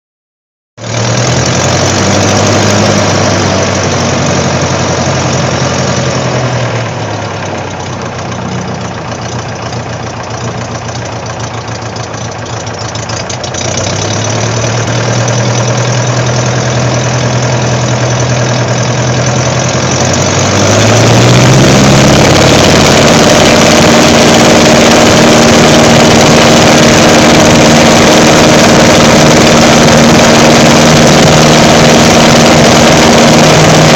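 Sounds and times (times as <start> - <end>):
aircraft piston engine running: 1.1 - 33.9.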